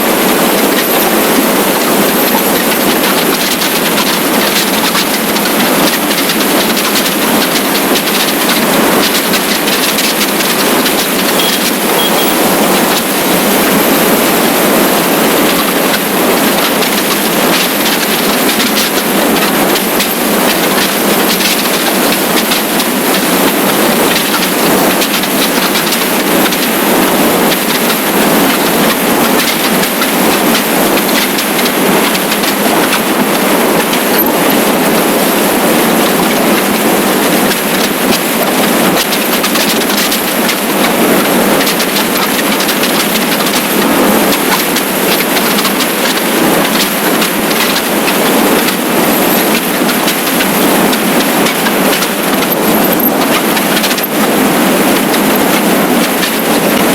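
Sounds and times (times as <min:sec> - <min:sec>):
motorcycle road noise: 0:00.0 - 0:56.9.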